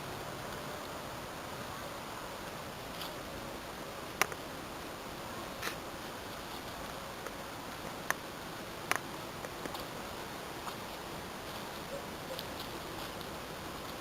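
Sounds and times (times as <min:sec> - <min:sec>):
steady quiet hiss: 0:00.0 - 0:14.0.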